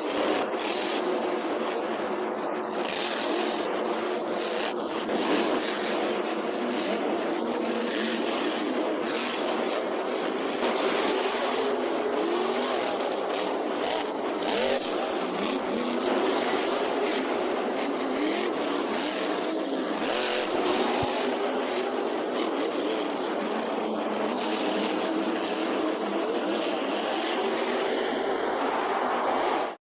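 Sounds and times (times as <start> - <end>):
monster truck engine revving: 0.0 - 29.8.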